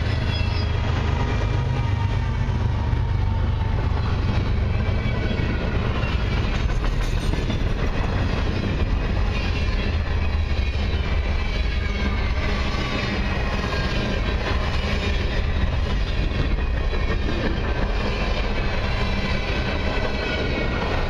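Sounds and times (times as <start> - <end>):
freight train wheels rolling on rails: 0.0 - 21.0.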